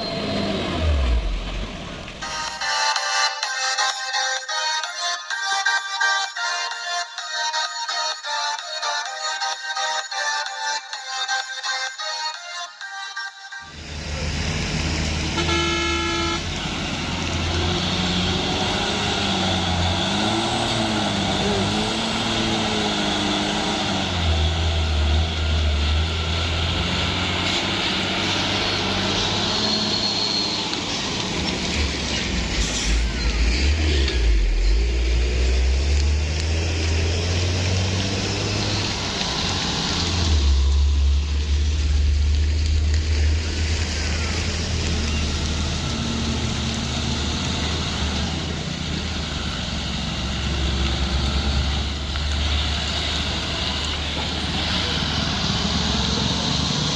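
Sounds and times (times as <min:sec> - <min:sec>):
diesel truck engine droning: 0:00.0 - 0:04.0, 0:13.7 - 0:56.9.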